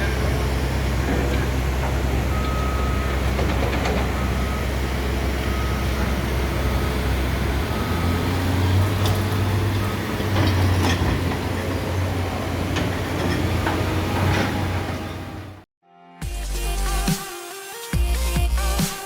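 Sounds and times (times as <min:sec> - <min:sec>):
diesel construction machine running: 0:00.0 - 0:15.7.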